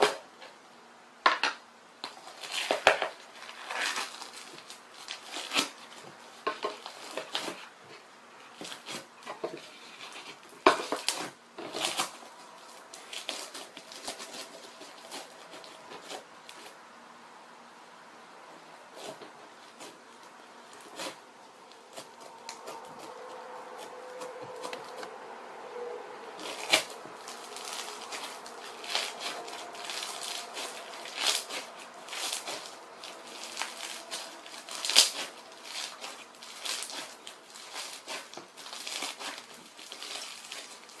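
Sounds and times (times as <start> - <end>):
foam slime crackling and popping: 2.0 - 7.8, 8.5 - 16.8, 18.9 - 25.1, 26.3 - 41.0.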